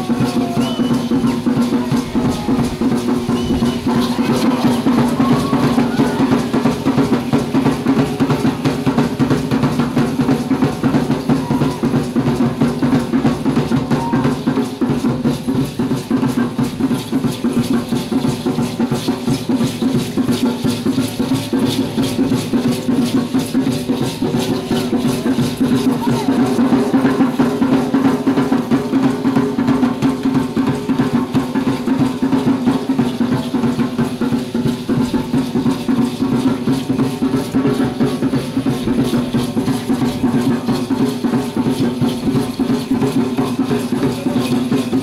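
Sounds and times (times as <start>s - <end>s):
drums beating fast rhythm: 0.0s - 45.0s.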